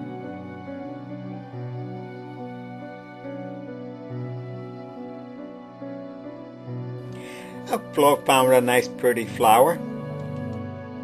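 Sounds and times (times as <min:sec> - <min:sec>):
soft slow background music: 0:00.0 - 0:11.0.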